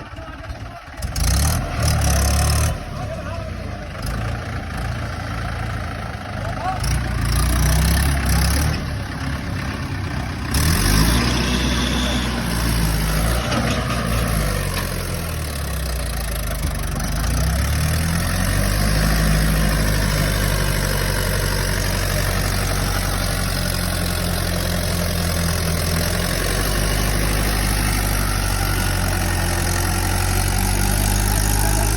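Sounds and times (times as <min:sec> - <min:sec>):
tractor diesel engine idling: 0:00.0 - 0:31.9.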